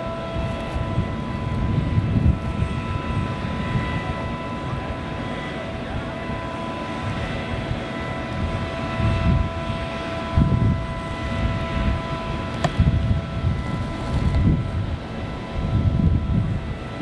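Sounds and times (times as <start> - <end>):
jet engine high whine: 0.0 - 17.0.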